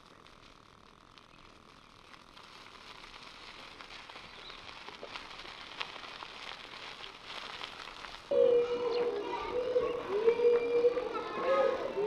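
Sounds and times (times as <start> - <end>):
bicycle tyres crackling on grit: 0.0 - 11.9.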